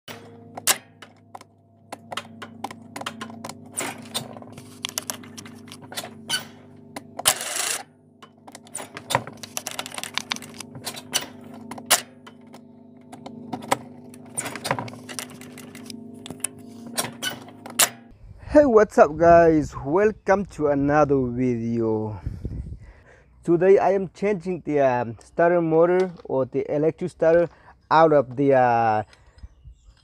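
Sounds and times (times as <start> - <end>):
steady low hum: 0.1 - 25.4.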